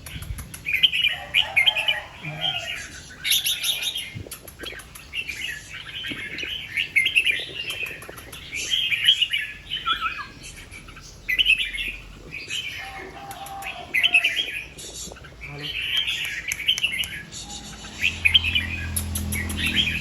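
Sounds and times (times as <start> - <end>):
bulbul singing warbling phrases: 0.0 - 20.0.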